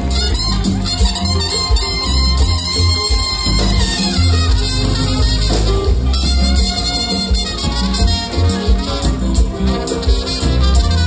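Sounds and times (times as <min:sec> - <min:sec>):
drums: 0:00.0 - 0:11.0
heavy bass line: 0:00.0 - 0:11.0
live band playing: 0:00.0 - 0:11.0.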